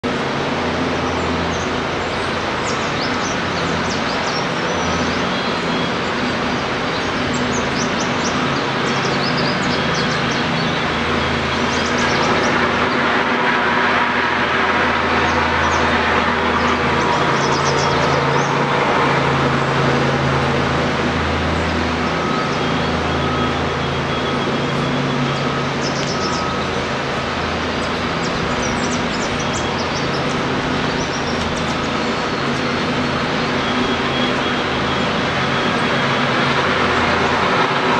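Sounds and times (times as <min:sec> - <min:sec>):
traffic rumble with low hum: 0:00.0 - 0:37.9
small birds chirping: 0:00.9 - 0:13.2, 0:14.8 - 0:18.8, 0:21.5 - 0:37.2.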